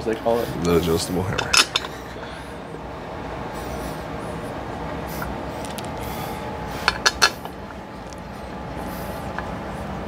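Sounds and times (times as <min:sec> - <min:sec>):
background hum: 0:00.0 - 0:10.0.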